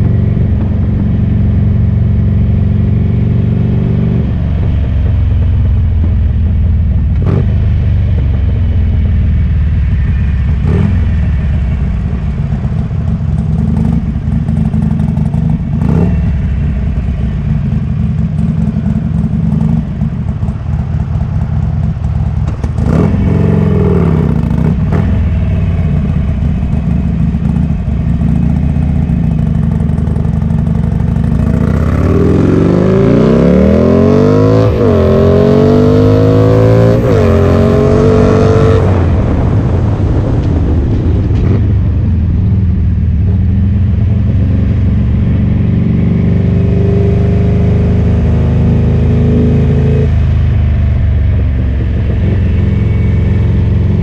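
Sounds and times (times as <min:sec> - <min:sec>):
motorcycle engine loping and revving: 0:00.0 - 0:54.0.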